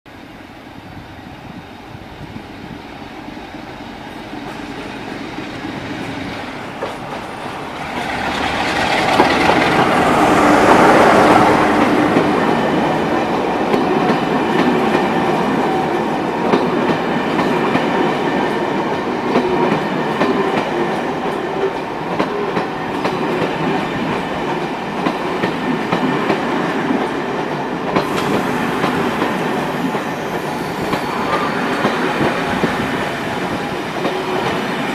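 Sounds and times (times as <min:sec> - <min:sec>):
passenger train passing: 0:00.1 - 0:34.9.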